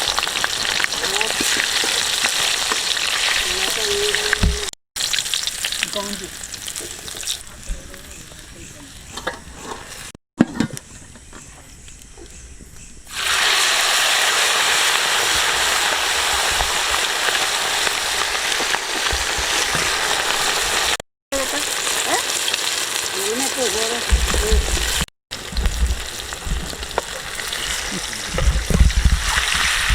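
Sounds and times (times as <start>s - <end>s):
oil sizzling loudly: 0.0s - 8.5s, 13.1s - 29.9s.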